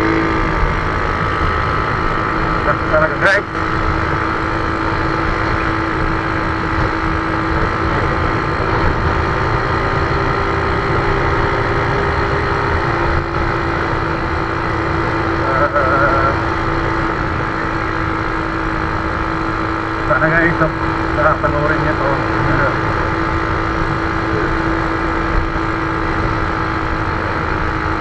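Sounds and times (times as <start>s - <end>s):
scooter engine running: 0.0s - 28.0s
wind and road noise: 0.0s - 28.0s.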